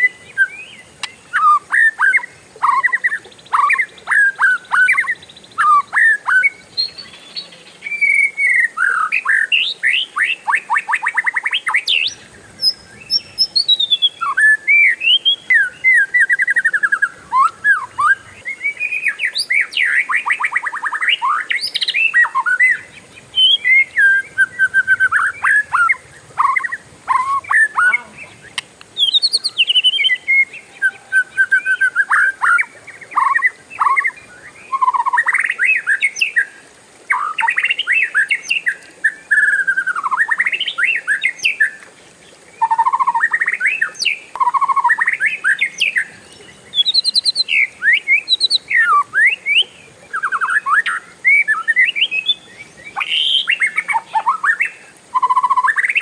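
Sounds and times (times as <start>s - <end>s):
bird singing whistles and trills: 0.0s - 41.9s, 42.6s - 56.0s.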